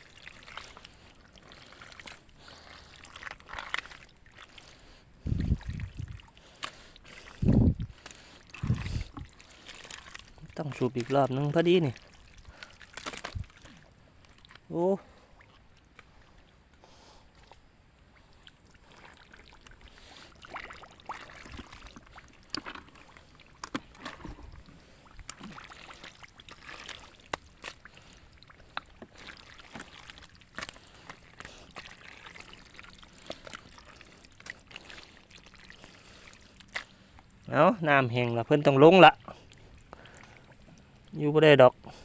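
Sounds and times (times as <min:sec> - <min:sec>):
shallow water splashing: 0:00.0 - 0:42.0.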